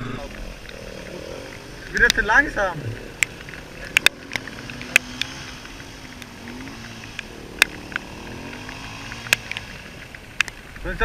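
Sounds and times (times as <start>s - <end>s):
distant dirt bike engine: 0.0s - 11.0s
sharp clicks: 0.2s - 10.8s.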